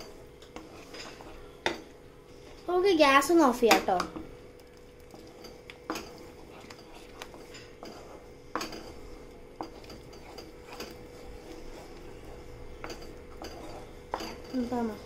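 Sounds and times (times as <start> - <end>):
spatula scraping and knocking pan: 0.0 - 4.3, 5.1 - 15.0.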